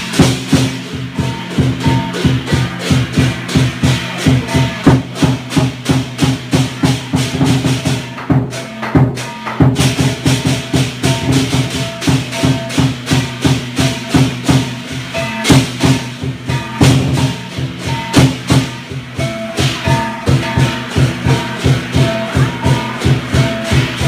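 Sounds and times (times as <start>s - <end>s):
clashing cymbals: 0.0s - 24.0s
drum beating: 0.0s - 24.0s
ringing gong: 0.0s - 24.0s.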